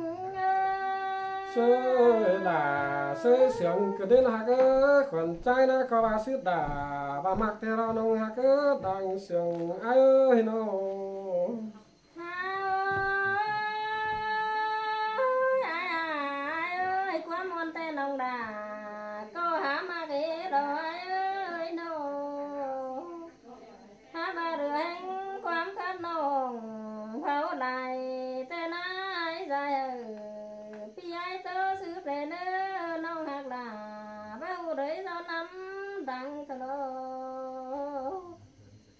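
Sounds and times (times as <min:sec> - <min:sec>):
person singing folk song: 0:00.0 - 0:38.9.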